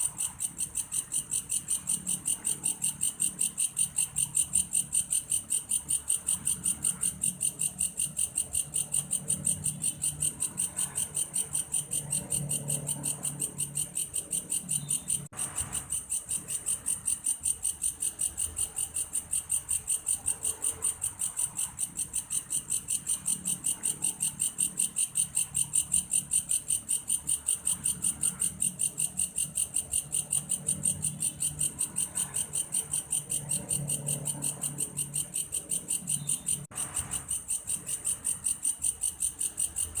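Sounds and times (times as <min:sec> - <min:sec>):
grasshopper trilling: 0:00.0 - 0:40.0.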